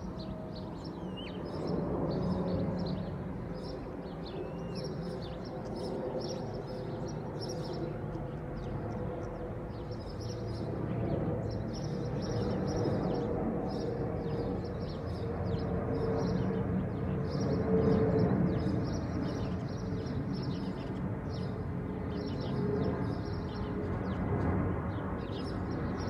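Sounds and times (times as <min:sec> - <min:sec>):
small birds chirping: 0:00.1 - 0:24.3, 0:24.9 - 0:26.0.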